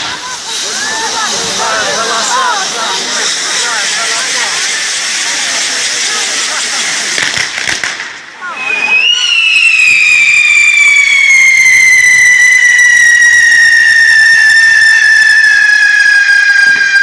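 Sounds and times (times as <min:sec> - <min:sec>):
firework shrill whistle: 0:00.0 - 0:17.0.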